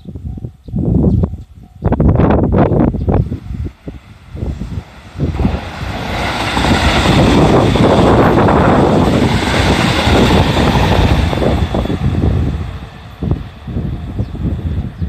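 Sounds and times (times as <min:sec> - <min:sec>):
electric train passing at speed: 0:00.1 - 0:15.0.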